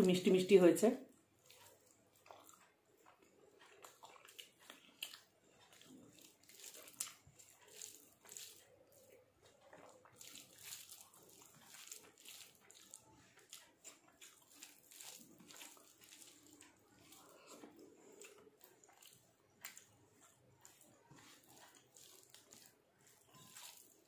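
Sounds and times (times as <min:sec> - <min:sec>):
soft wet chewing: 0:01.0 - 0:24.0
fingers squishing food: 0:01.2 - 0:24.0.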